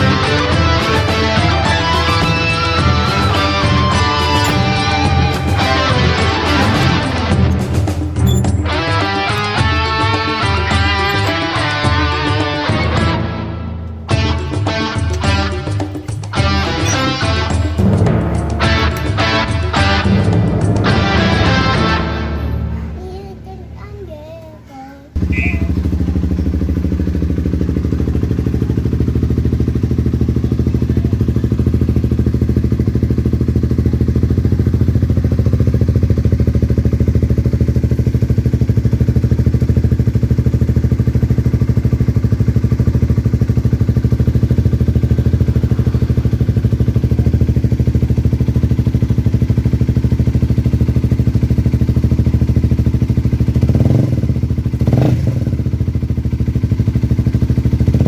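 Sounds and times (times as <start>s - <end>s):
motorcycle engine idling: 0.0s - 24.4s, 25.2s - 58.0s.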